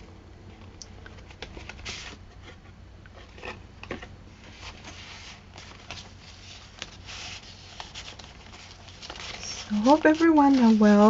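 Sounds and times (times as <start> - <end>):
paper rustling: 0.5 - 11.0.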